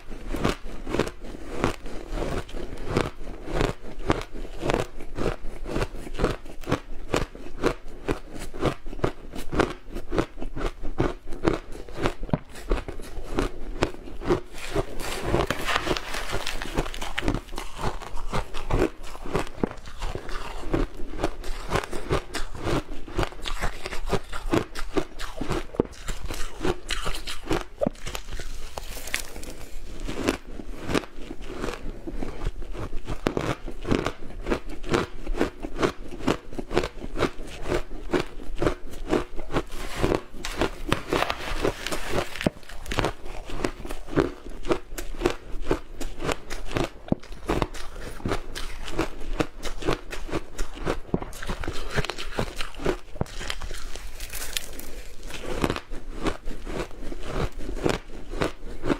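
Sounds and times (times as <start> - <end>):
chewing crunchy food: 0.0 - 58.9.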